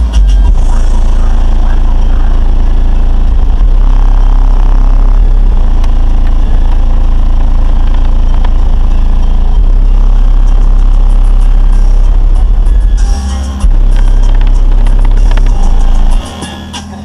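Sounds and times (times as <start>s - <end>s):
loud deep subwoofer bass: 0.0s - 17.0s.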